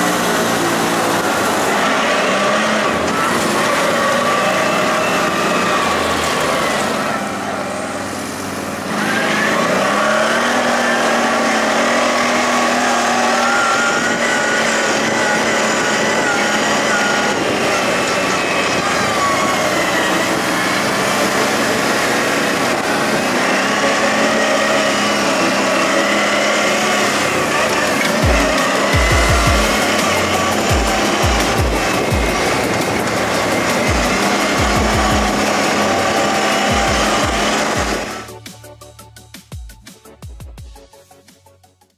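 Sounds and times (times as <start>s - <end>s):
quad bike engine revving: 0.0s - 38.5s.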